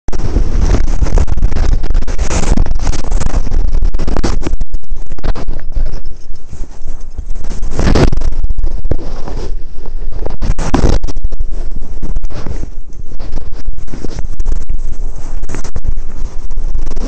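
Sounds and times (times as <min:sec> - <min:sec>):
scraping on microphone: 0:00.1 - 0:17.0.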